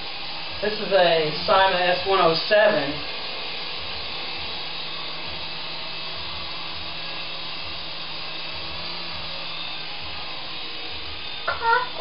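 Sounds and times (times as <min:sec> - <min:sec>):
toy helicopter electric whir: 0:00.0 - 0:12.0.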